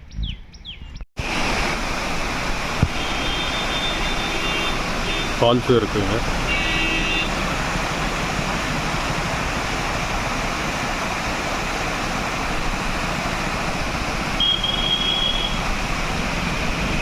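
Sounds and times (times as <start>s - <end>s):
waterfall roaring: 1.2s - 17.0s.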